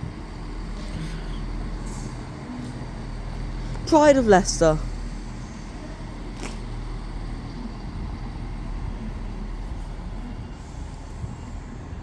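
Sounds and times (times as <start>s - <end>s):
train diesel engines rumbling: 0.0s - 12.0s.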